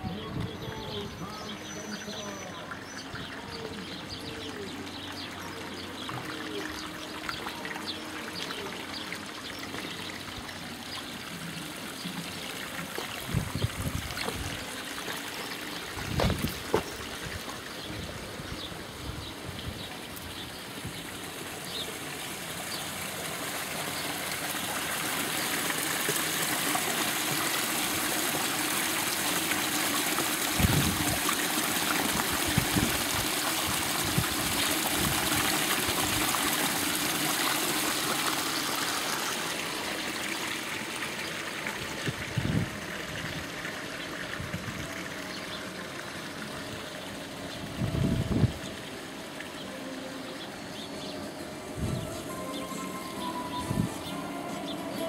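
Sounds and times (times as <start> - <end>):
trickling water: 0.0 - 55.0.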